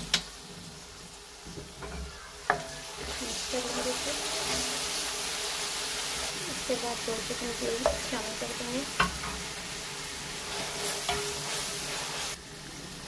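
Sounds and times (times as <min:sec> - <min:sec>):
stirring in a pan: 0:00.0 - 0:12.8
chicken frying in hot oil: 0:00.0 - 0:13.0.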